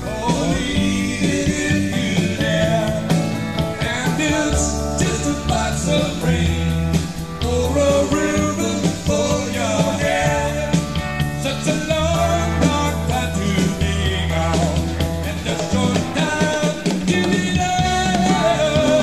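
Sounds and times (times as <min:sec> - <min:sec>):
rock band music: 0:00.0 - 0:19.0.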